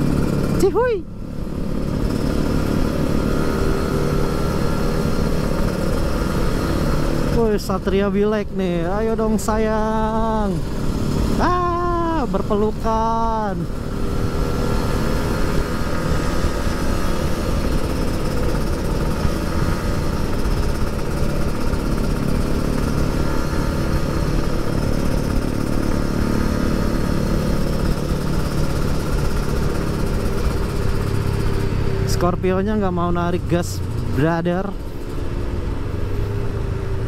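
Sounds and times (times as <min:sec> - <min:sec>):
two-stroke motorcycle engine: 0:00.0 - 0:37.0.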